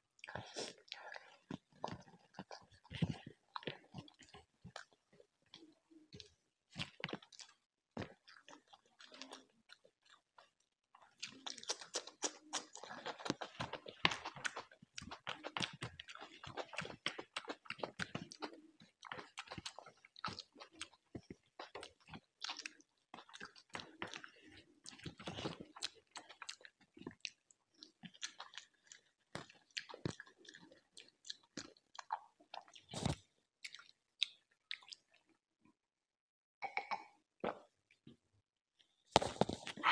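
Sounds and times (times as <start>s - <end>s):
chewing and crunching food: 0.0s - 35.4s, 38.8s - 39.9s.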